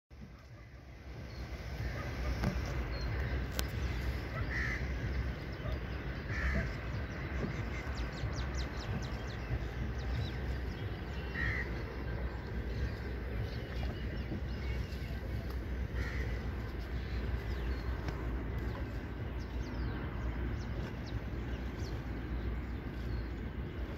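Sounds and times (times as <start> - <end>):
steady low rumble: 0.2 - 23.9.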